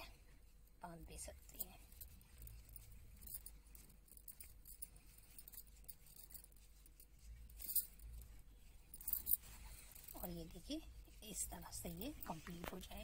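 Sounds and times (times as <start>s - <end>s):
yarn rustling in fingers: 1.2s - 13.0s.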